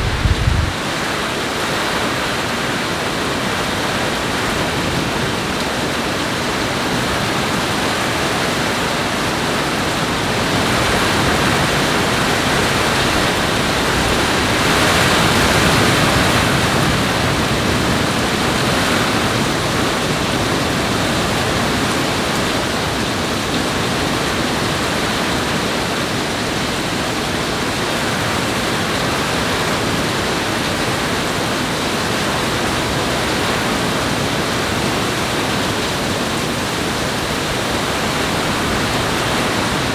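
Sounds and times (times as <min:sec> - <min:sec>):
heavy rainstorm water rushing: 0:00.0 - 0:39.9.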